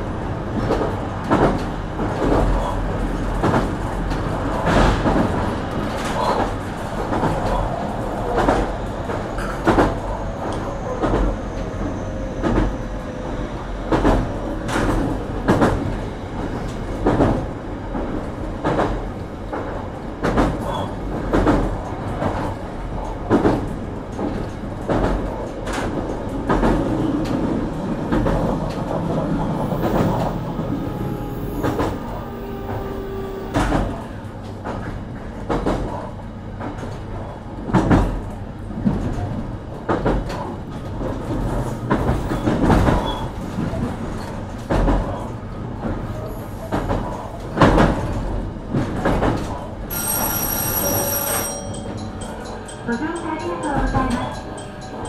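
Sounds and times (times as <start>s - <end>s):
train carriage rumble: 0.0s - 55.0s.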